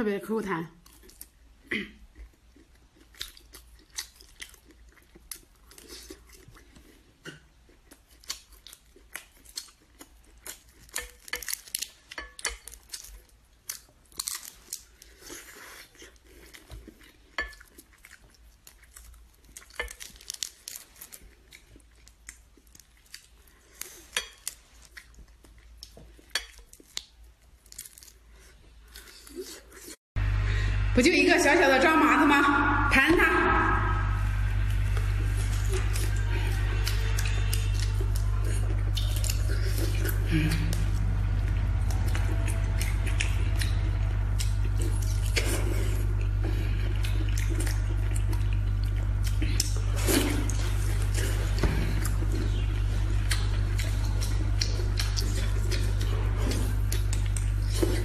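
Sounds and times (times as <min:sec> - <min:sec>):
chewing and crunching prawn shells: 0:00.8 - 0:30.0, 0:34.7 - 0:58.0.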